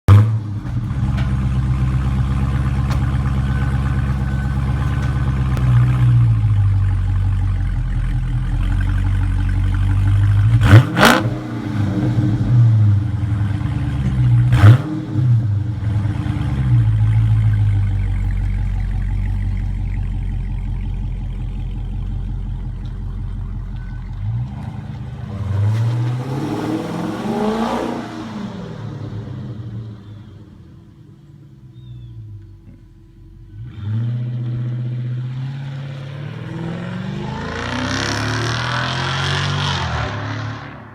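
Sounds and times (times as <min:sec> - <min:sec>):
car exhaust idling and revving: 0:00.1 - 0:40.9.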